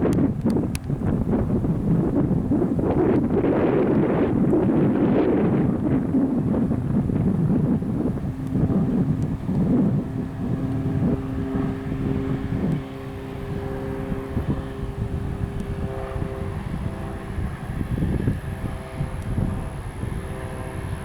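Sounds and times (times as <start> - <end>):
airplane engine and propeller droning: 0.0 - 21.0
wind noise on microphone: 0.0 - 21.0.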